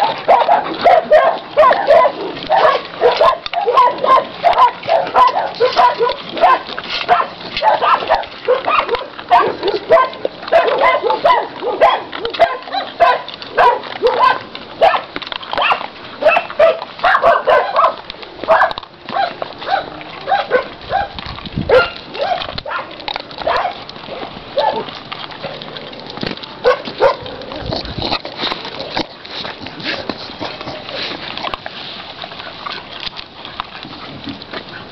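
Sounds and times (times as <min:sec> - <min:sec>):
dogs barking and yipping: 0:00.0 - 0:34.9.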